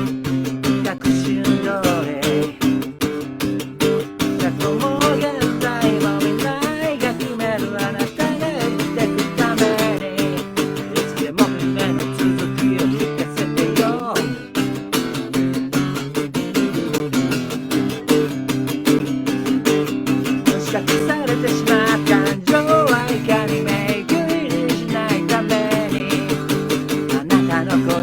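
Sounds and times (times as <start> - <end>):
person singing: 0.0 - 3.2, 3.8 - 19.0, 19.6 - 28.0
acoustic guitar strumming: 0.0 - 28.0.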